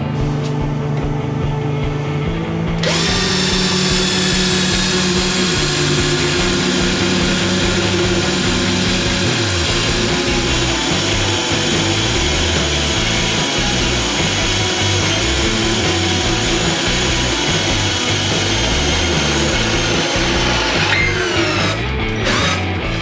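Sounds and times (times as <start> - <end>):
background music with bass line: 0.0 - 23.0
drill motor whine: 0.9 - 23.0.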